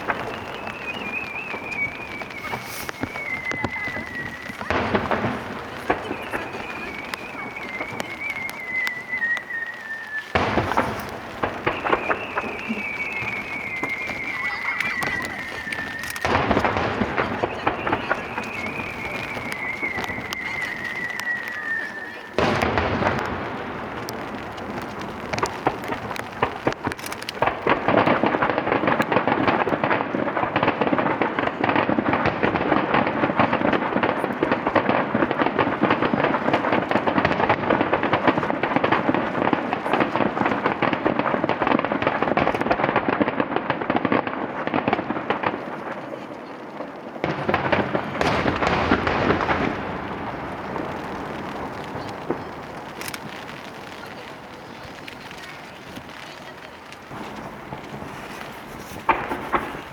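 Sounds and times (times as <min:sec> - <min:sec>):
echoing firework booms: 0:00.0 - 0:59.9
fireworks bangs and crackles: 0:00.0 - 0:59.9.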